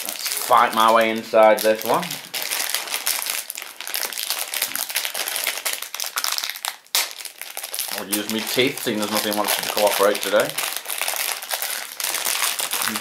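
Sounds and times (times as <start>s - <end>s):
wrapper crinkling: 0.0s - 13.0s.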